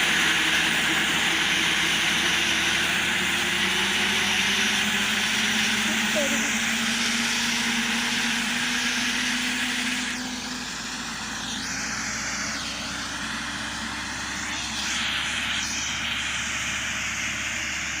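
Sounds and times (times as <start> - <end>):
tractor towing reel mower: 0.0 - 18.0.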